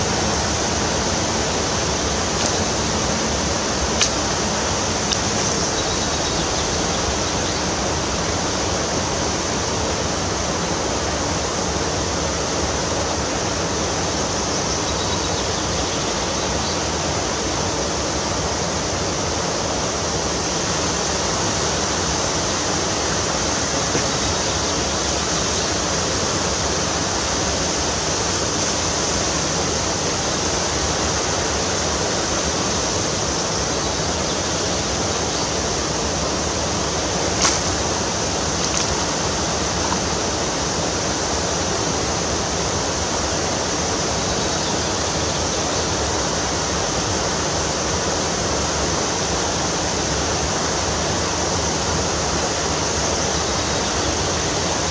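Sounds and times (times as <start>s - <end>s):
fast-flowing water rushing: 0.0s - 54.9s.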